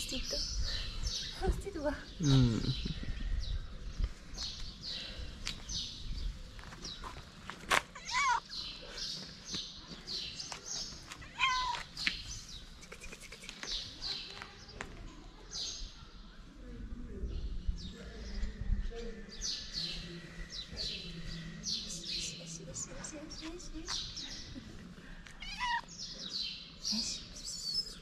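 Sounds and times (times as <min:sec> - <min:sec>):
birds chirping: 0:00.0 - 0:14.8, 0:17.8 - 0:28.0.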